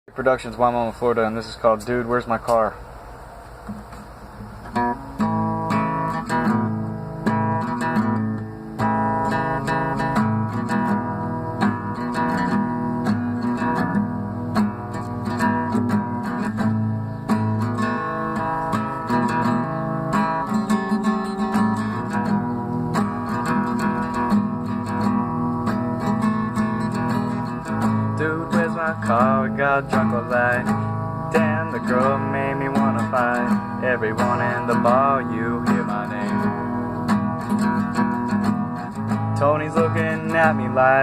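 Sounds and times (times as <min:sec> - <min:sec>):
acoustic guitar strumming: 0:00.1 - 0:41.0.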